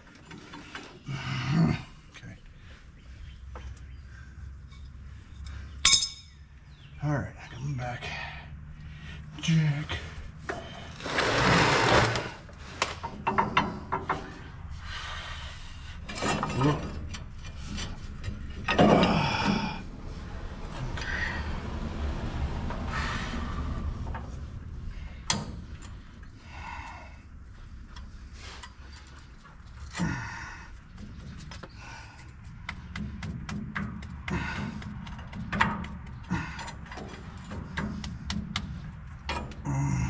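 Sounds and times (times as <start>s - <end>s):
heavy metal parts scraping and clunking: 0.0s - 1.1s, 8.7s - 39.7s.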